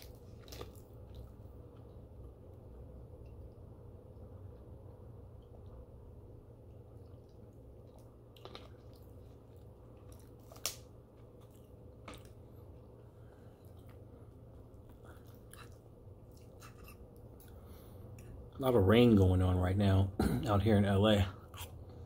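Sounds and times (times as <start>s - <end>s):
faint chewing of food: 0.0s - 18.6s, 21.3s - 22.0s.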